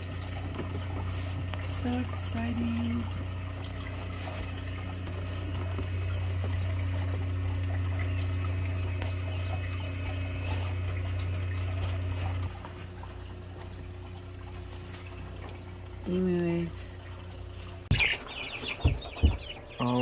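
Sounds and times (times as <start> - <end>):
quail chicks peeping: 0.0 - 13.8, 14.6 - 16.9, 17.5 - 20.0
low machine hum: 0.0 - 20.0.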